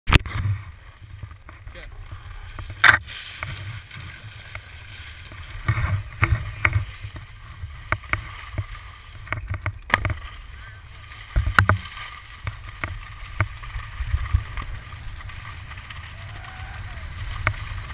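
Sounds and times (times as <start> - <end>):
ski clicks and knocks: 0.0 - 17.9.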